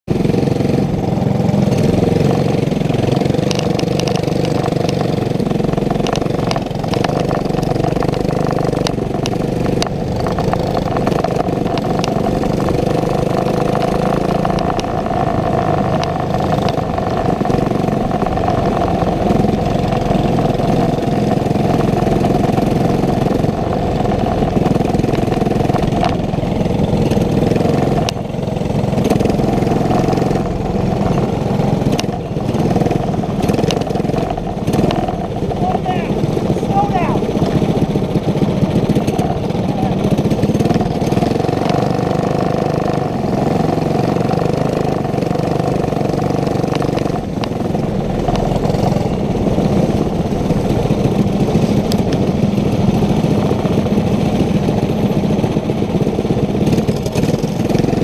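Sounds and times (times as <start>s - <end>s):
kart engine running: 0.1s - 58.0s.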